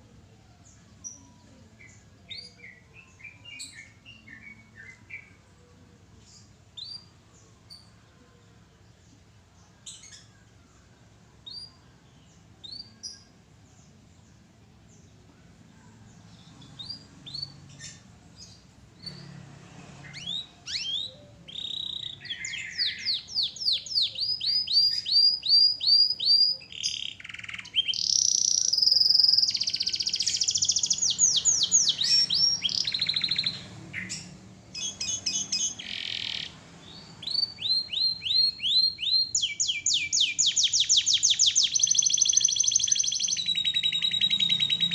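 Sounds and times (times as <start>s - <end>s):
canary singing and trilling: 0.0s - 8.1s, 9.0s - 15.6s, 16.2s - 44.9s.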